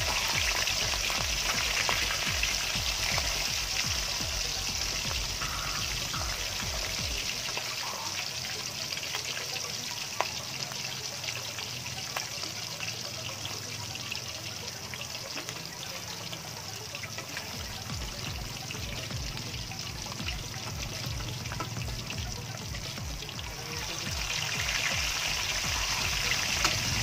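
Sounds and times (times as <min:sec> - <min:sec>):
oil sizzling and crackling: 0:00.0 - 0:27.0.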